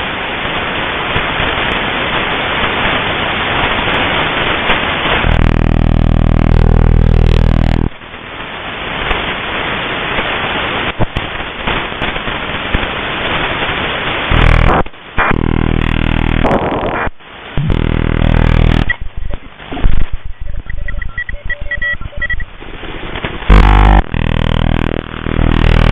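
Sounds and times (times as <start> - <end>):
low buzzing radio signals: 0.0 - 25.9
radio static hiss: 0.0 - 25.9.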